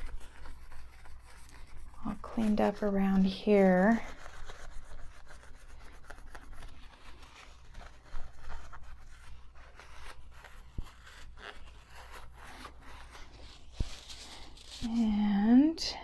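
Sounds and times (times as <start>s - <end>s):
scratchy rubbing and scraping: 0.0s - 15.9s.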